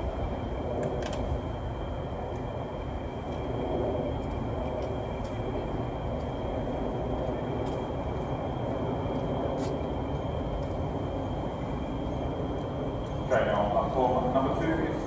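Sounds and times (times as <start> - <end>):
high-pitched whine: 0.0 - 15.0
train low rumble: 0.0 - 15.0.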